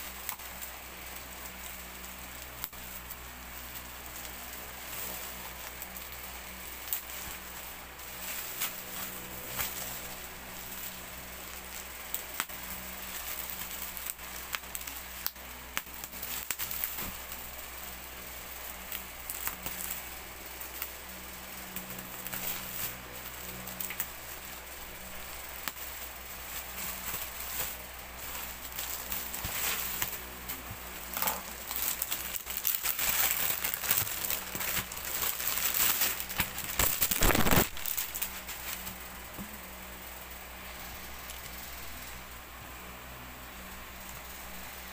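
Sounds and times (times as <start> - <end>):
bubble wrap crinkling and crackling: 0.0 - 44.9.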